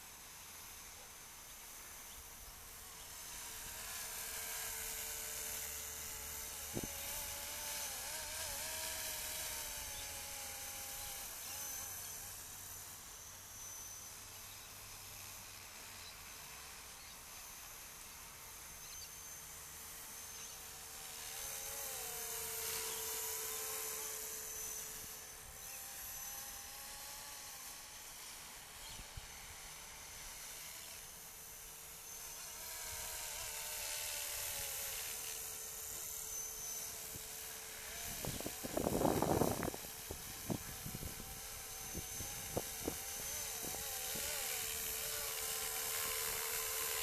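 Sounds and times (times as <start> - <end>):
model helicopter rotor whine: 0.0 - 47.0.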